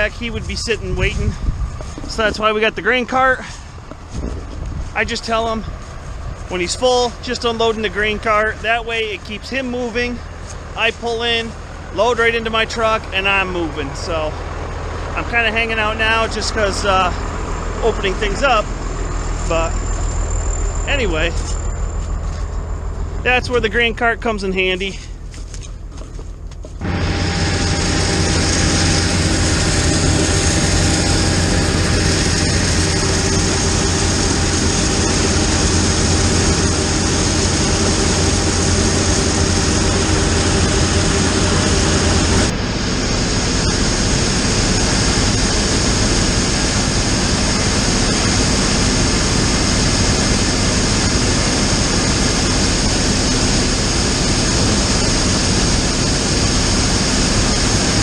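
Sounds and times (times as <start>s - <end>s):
diesel farm machinery running: 0.0s - 58.0s.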